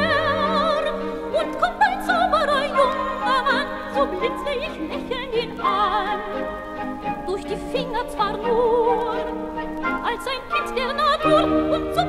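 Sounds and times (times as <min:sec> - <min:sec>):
orchestral accompaniment: 0:00.0 - 0:12.0
person singing with vibrato: 0:00.0 - 0:12.0.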